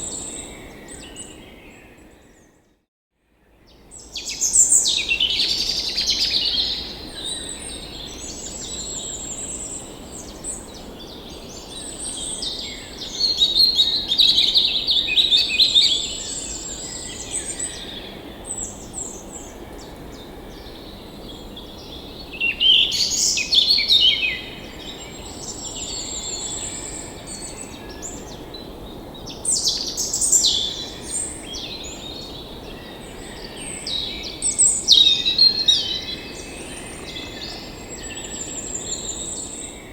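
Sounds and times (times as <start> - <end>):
songbirds singing and chirping: 3.6 - 39.9.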